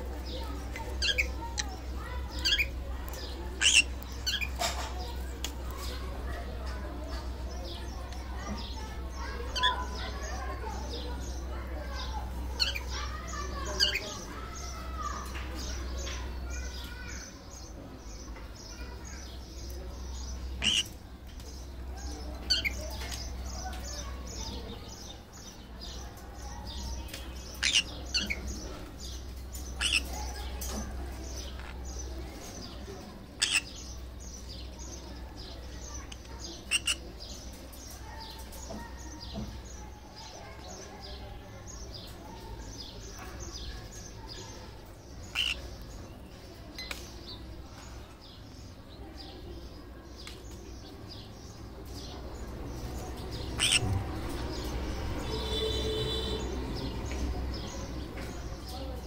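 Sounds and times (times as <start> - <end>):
parrots chirping: 0.1 - 6.4, 7.6 - 16.8, 18.8 - 21.0, 21.6 - 40.9, 42.5 - 46.2, 51.4 - 58.5.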